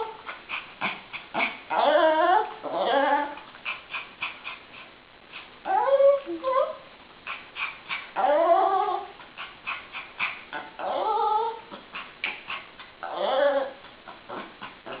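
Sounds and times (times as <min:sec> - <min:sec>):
dog whining and grumbling: 0:00.0 - 0:04.0, 0:05.6 - 0:15.0.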